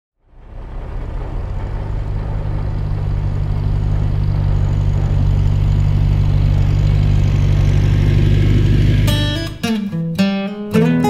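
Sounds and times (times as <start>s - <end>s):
tractor engine running: 0.2s - 9.8s.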